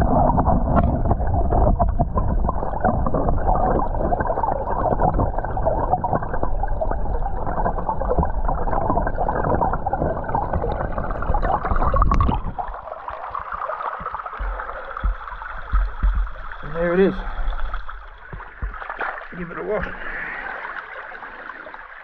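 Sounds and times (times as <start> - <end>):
underwater creek rushing: 0.0 - 22.0
water splashing and trickling: 0.0 - 22.0.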